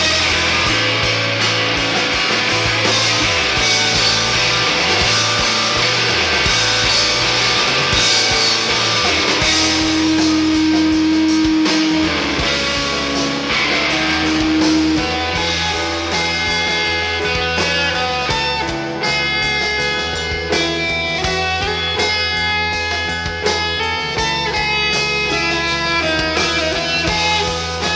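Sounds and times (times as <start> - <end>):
bass line: 0.0 - 27.9
guitar-driven rock song: 0.0 - 27.9.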